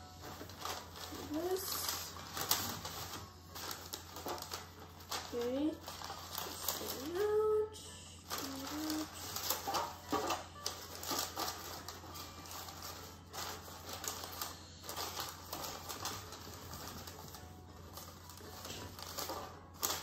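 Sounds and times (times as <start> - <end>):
paper tapping metal pan: 0.0 - 7.3, 8.3 - 20.0
parchment paper crinkling: 0.0 - 20.0.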